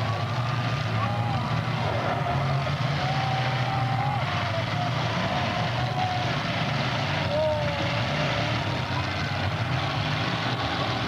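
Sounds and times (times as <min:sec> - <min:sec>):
car engines running loudly: 0:00.0 - 0:11.0.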